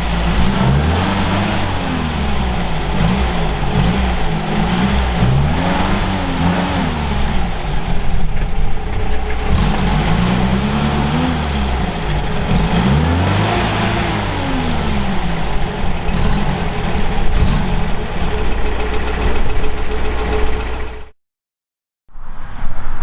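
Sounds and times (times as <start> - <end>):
vehicle engine revving under load: 0.0 - 21.1.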